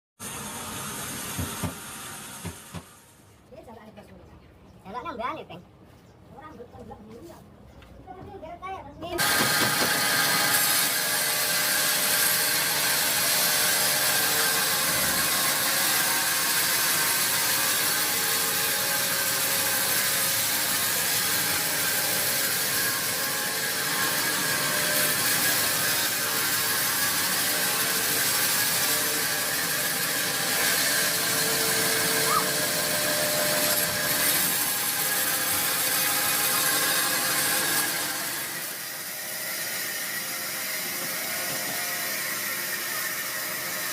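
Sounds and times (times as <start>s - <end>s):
saw cutting through log: 0.2s - 3.1s, 9.2s - 43.9s.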